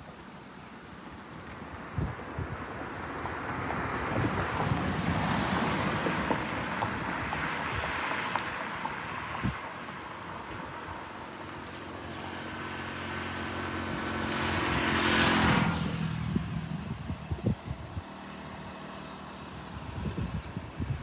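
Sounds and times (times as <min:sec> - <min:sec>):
wind buffeting microphone: 0:01.2 - 0:11.5, 0:13.8 - 0:21.0
vehicle passing by: 0:02.8 - 0:21.0.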